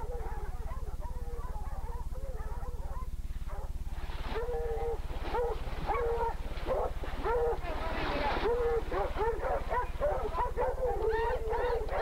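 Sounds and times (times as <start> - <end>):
dogs barking: 0.0 - 12.0
steady low hum: 0.0 - 12.0.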